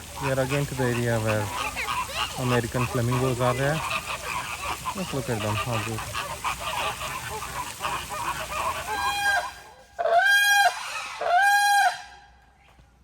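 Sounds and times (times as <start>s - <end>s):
flamingos honking and gabbling: 0.0s - 12.4s.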